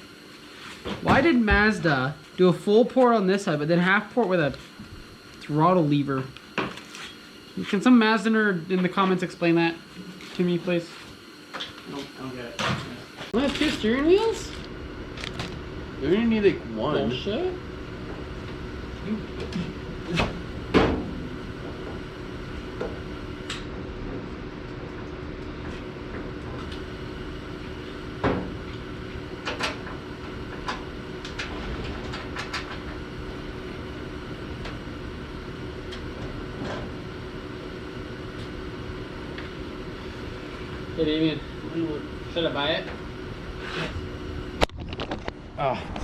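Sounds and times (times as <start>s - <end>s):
space heater humming: 0.0s - 46.0s.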